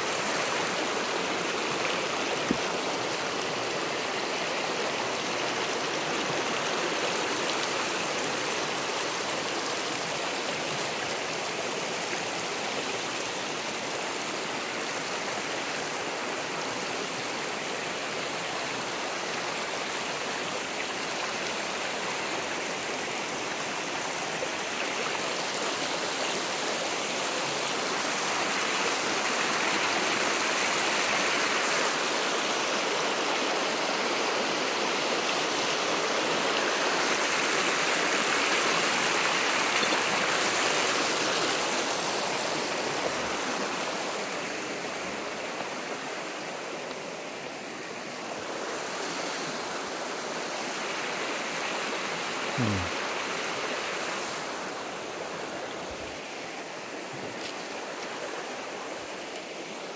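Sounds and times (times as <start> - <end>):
creek water rushing over stones: 0.0 - 59.9.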